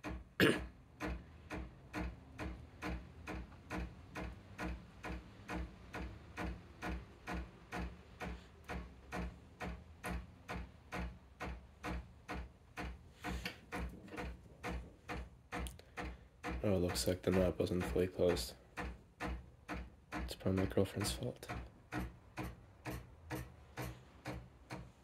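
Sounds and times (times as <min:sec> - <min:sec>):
espresso machine steam knocking: 0:01.0 - 0:25.0.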